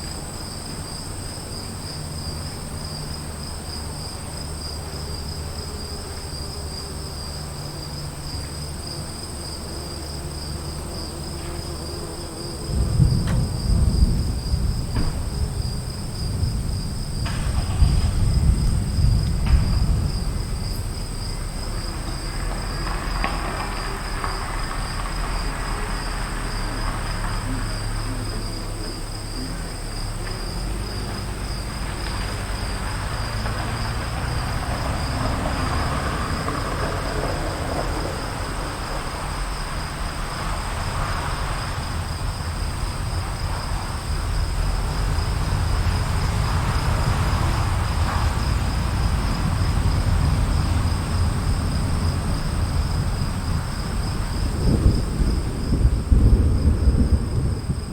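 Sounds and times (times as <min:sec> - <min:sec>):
distant thunder rumble: 0:00.0 - 0:57.9
insects chirring: 0:00.0 - 0:57.9.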